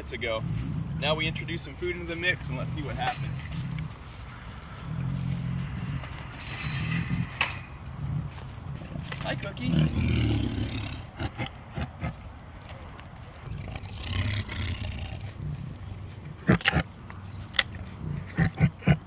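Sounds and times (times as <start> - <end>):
tiger growling: 0.0 - 4.1, 4.7 - 12.3, 13.4 - 19.0.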